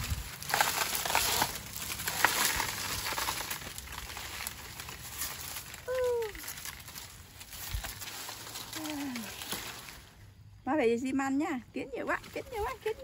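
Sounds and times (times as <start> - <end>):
dry leaves crackling and rustling: 0.0 - 13.0.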